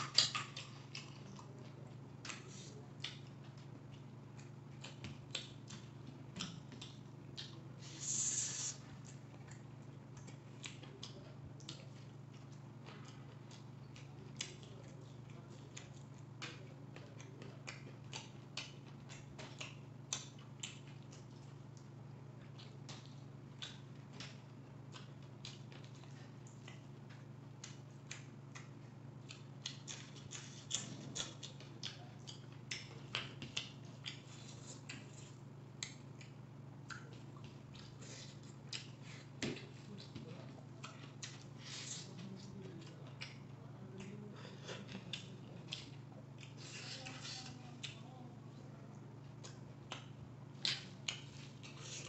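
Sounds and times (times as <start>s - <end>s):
man chewing and lip smacking: 0.0s - 52.0s
steady low hum: 0.0s - 52.0s.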